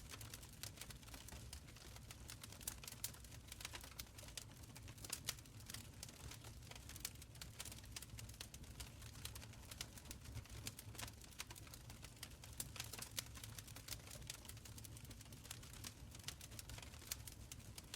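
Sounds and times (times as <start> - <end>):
wood fire crackling and popping: 0.0 - 17.9.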